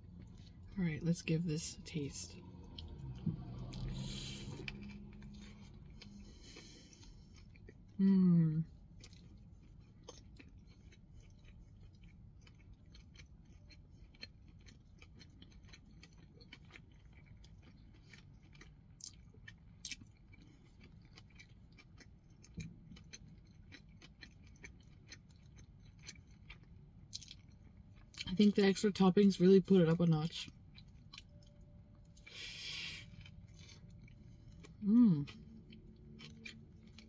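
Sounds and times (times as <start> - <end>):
quiet chewing clicks and smacks: 2.5 - 8.0, 8.7 - 28.6, 30.5 - 32.4, 33.0 - 37.0.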